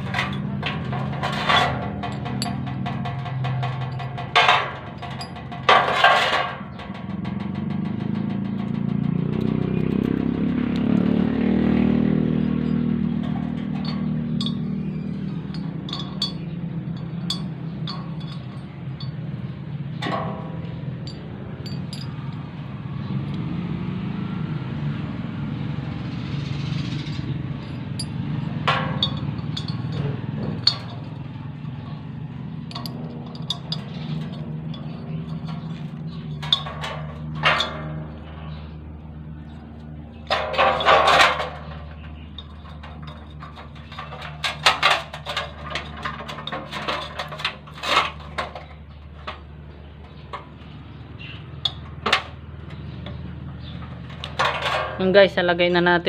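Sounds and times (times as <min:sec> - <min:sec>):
metal parts clinking: 0:00.0 - 0:10.2, 0:12.4 - 0:22.4, 0:27.5 - 0:38.8, 0:39.4 - 0:55.3.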